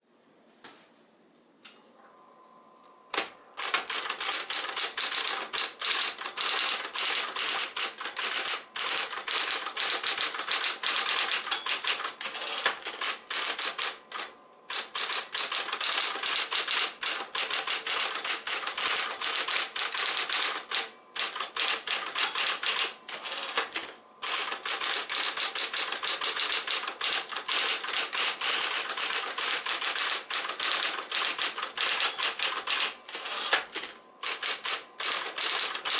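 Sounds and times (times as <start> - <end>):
electric typewriter typing: 3.2 - 35.9.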